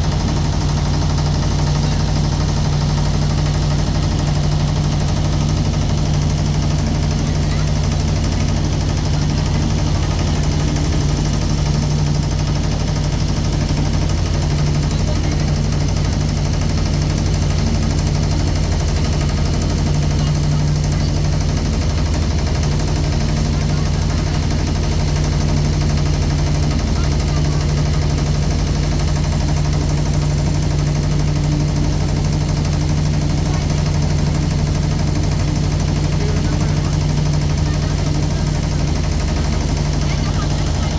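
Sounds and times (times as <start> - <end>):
motorboat engine droning: 0.0 - 40.9.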